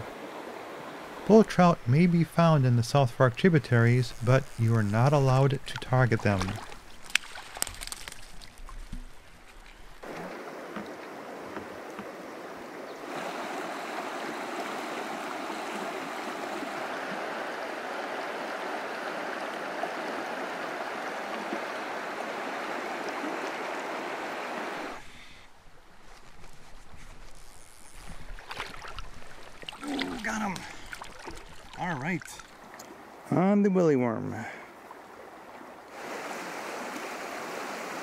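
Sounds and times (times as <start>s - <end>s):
creek water rushing: 0.0s - 26.0s, 28.0s - 33.3s, 34.3s - 38.0s.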